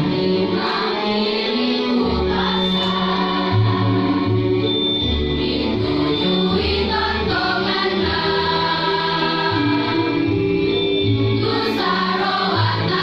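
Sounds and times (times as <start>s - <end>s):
choir singing in harmony: 0.0s - 13.0s.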